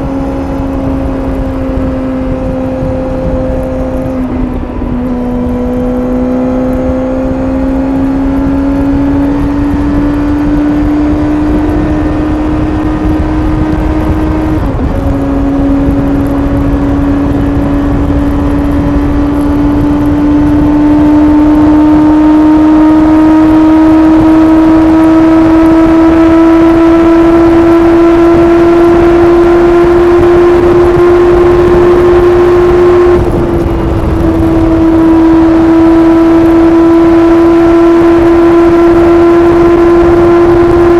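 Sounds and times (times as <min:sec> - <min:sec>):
motorcycle engine at speed: 0:00.0 - 0:40.9
wind and road noise: 0:00.0 - 0:40.9.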